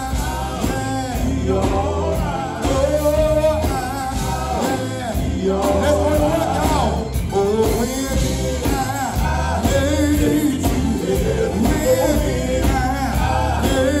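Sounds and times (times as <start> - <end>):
electric bass guitar and band: 0.0 - 14.0
male vocal group singing gospel: 0.0 - 14.0.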